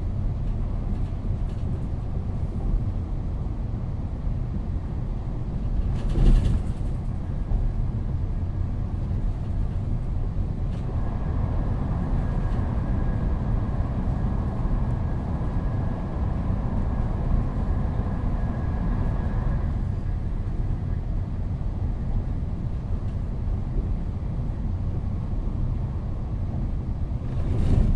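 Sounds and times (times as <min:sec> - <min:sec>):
train rumbling: 0:00.0 - 0:27.9.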